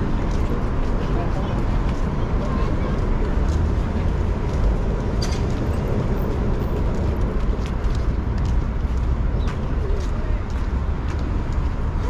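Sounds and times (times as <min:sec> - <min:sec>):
cars passing rumble: 0:00.0 - 0:12.0.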